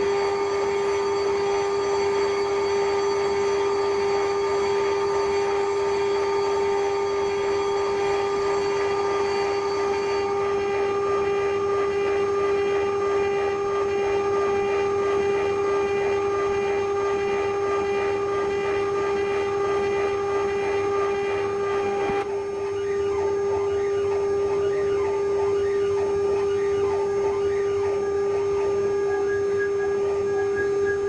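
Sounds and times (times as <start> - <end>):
router spindle whine: 0.0 - 31.0.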